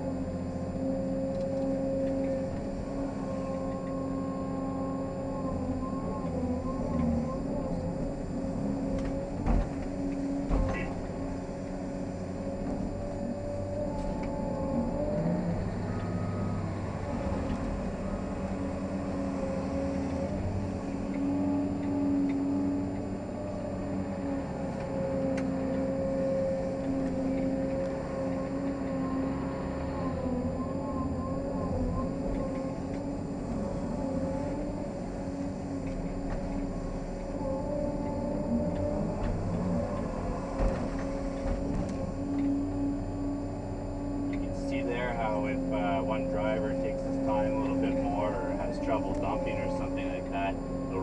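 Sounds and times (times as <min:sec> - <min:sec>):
excavator engine whining: 0:00.0 - 0:51.0.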